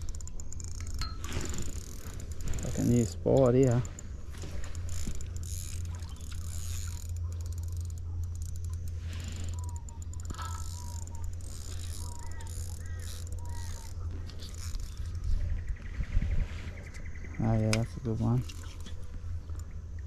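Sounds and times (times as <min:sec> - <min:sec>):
fishing reel whirring and clicking: 0:00.0 - 0:20.0.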